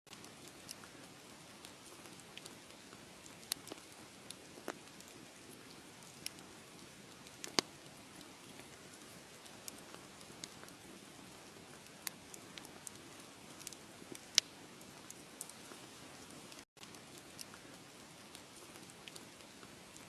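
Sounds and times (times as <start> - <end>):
wood fire crackling: 0.1 - 20.0.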